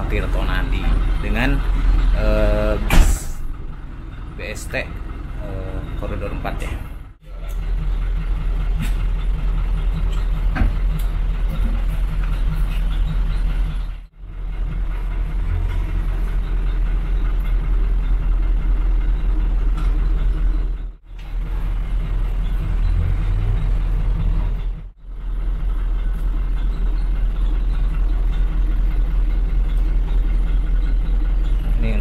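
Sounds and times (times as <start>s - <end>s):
bus engine idling: 0.0s - 32.0s.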